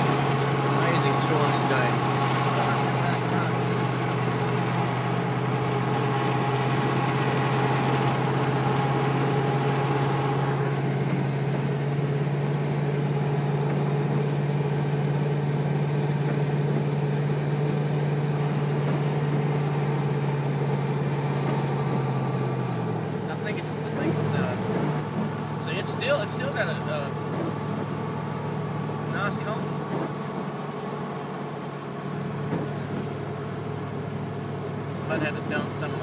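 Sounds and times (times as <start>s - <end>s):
car engine and road noise: 0.0s - 36.0s.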